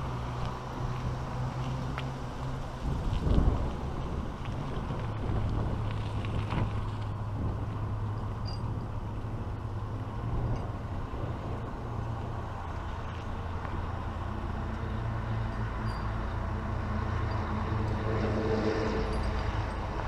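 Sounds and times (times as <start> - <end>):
road noise: 0.0 - 20.0.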